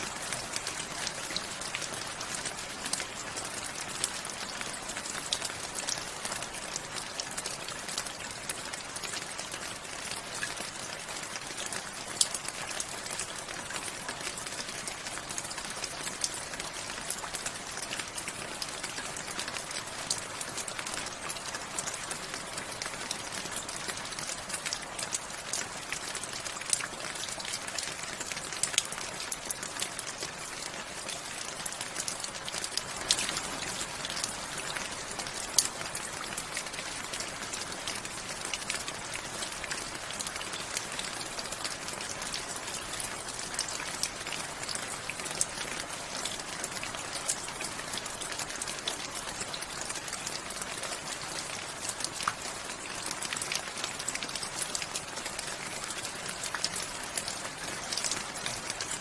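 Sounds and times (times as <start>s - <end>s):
rain drops ticking: 0.0s - 59.0s.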